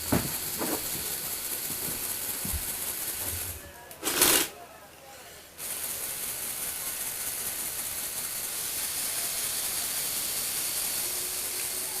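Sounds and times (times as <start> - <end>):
toy motor and gears whirring: 0.0 - 4.5, 5.6 - 12.0.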